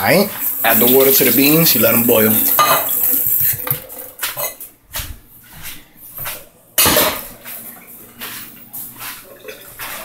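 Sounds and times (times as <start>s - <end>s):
pots and utensils clattering: 0.0s - 4.7s, 6.2s - 10.0s.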